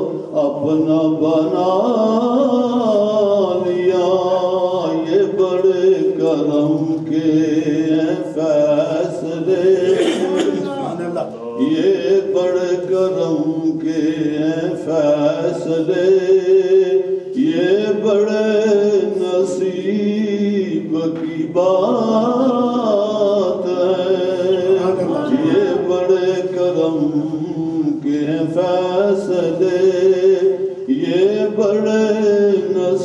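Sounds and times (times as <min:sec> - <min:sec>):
boy chanting devotional poem: 0:00.0 - 0:33.0.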